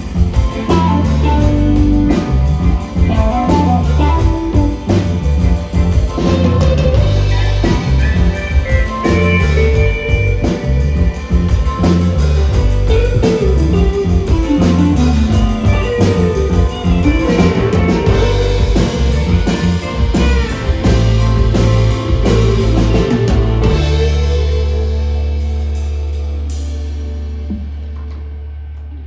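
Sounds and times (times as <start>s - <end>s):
bass guitar: 0.0s - 29.0s
drum kit: 0.0s - 29.0s
electric guitars: 0.0s - 29.0s.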